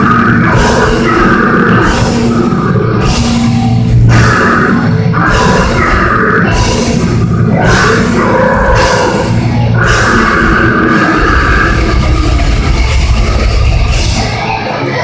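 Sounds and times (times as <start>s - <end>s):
distorted guitar: 0.0s - 15.0s
drum kit: 0.0s - 15.0s
heavy metal band playing live: 0.0s - 15.0s.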